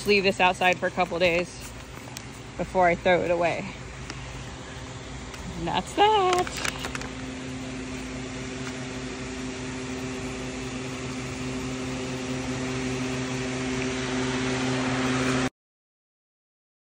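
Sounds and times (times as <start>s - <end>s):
steady mechanical hum: 0.0s - 15.5s.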